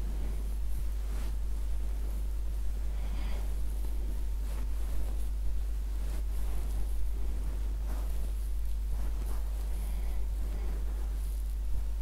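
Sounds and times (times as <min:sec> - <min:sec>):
fingers rustling through hair: 0:00.0 - 0:12.0
steady low hum: 0:00.0 - 0:12.0.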